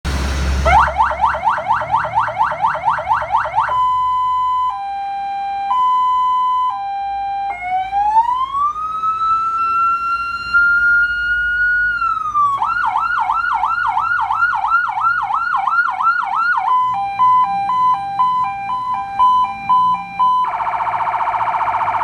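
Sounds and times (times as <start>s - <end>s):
electronic siren: 0.6s - 22.0s.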